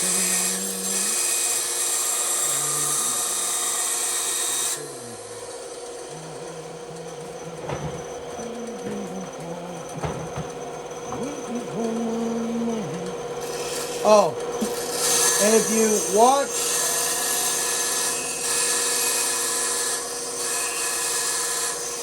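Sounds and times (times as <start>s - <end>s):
bandsaw cutting wood: 0.0s - 22.0s
bandsaw motor running: 0.0s - 22.0s.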